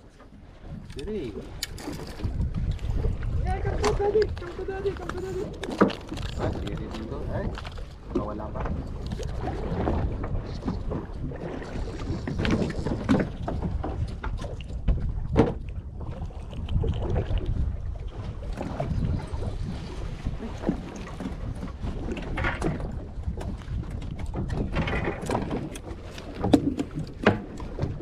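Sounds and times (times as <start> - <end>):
knocks and splashes: 0.0 - 28.0
water slapping boat hull: 0.0 - 28.0
wind on microphone: 0.0 - 28.0.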